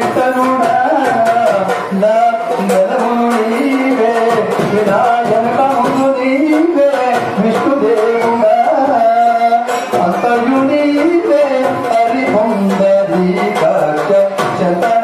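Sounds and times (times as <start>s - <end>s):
steady percussion: 0.0s - 15.0s.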